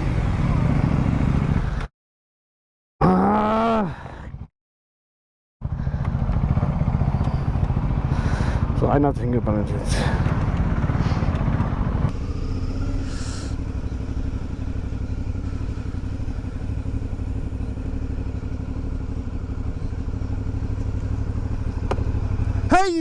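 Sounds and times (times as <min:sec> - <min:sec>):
motorcycle engine running: 0:00.0 - 0:01.8, 0:05.6 - 0:23.0.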